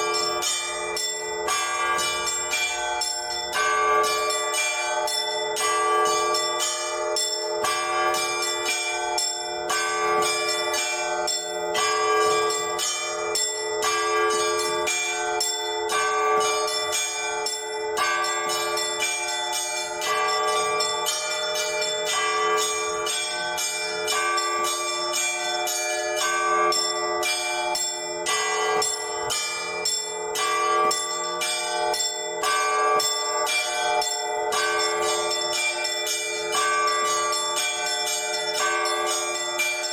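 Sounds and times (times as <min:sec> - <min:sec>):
large bells ringing: 0:00.0 - 0:39.9
small church bells striking: 0:00.0 - 0:39.9.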